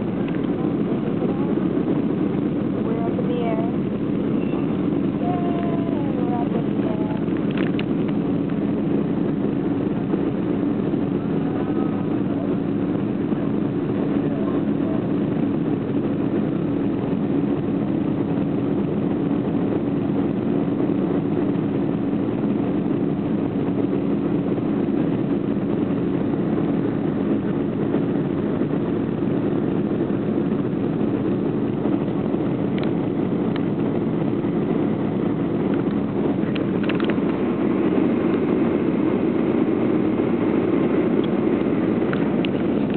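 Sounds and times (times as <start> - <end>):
jet engines droning in cabin: 0.0 - 42.9
low hum: 0.0 - 42.9.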